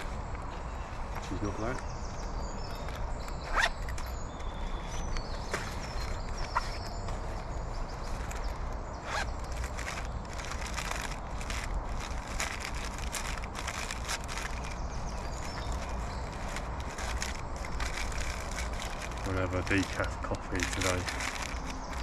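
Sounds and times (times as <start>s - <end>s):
camp gear rustling and clicking: 0.0s - 22.0s
steady low rumble: 0.0s - 22.0s.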